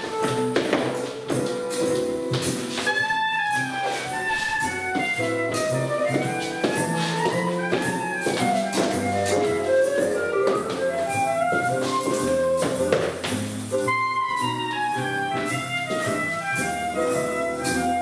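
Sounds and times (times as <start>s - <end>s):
jazz music: 0.0s - 18.0s.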